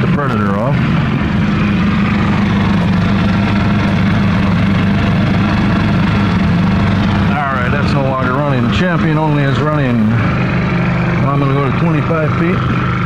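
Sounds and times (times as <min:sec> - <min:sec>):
generators idling: 0:00.0 - 0:13.0.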